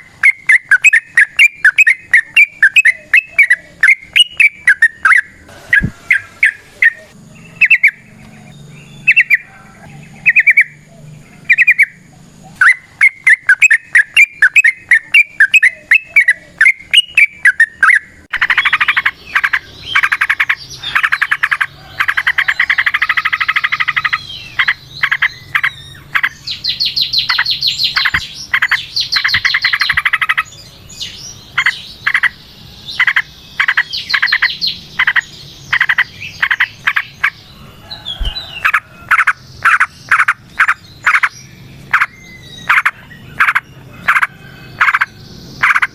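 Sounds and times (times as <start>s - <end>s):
bulbul singing: 0.0s - 45.9s.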